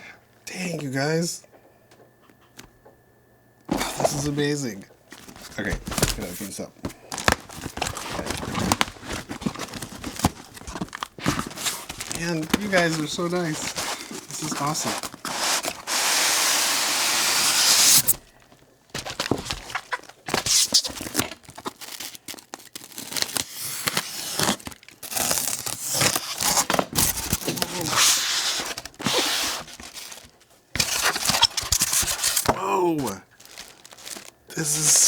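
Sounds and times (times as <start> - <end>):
wrapping rustling and crinkling: 3.7 - 35.0
paper packaging tearing: 5.2 - 18.2, 19.0 - 35.0.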